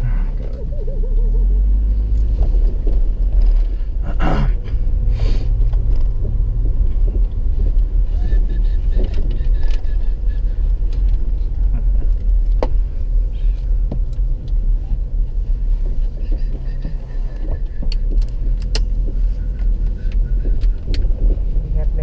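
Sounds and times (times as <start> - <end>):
road and engine noise in car: 0.0 - 22.0.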